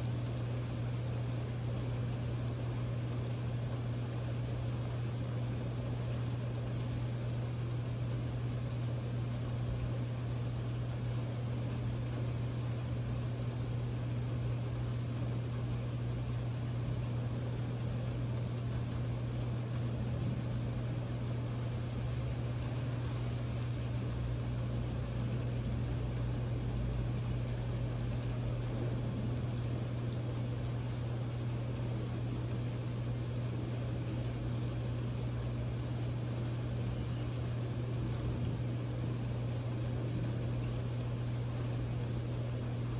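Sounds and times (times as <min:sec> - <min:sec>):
steady rain: 0:00.0 - 0:42.9.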